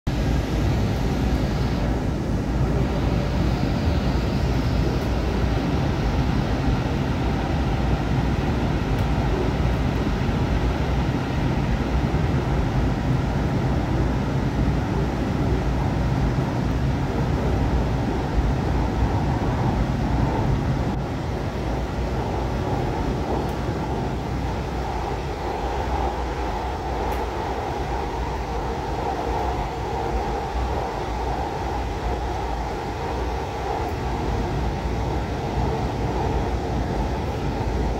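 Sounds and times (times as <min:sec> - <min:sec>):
train rumbling from inside car: 0:00.1 - 0:37.9.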